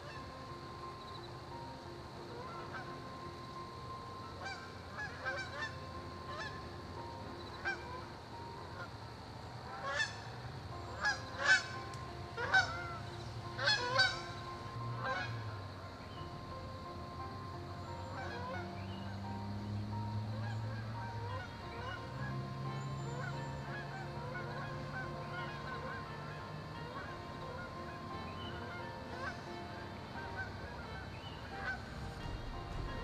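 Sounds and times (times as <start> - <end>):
geese honking: 0.0 - 0.3, 2.3 - 3.1, 4.2 - 6.7, 7.4 - 8.9, 9.7 - 33.0
soft background music: 0.0 - 33.0.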